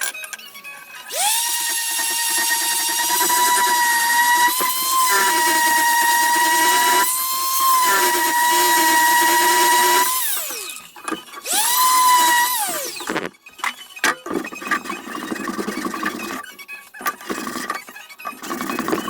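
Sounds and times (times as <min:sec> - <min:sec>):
electric hand planer motor whine: 0:00.0 - 0:19.0.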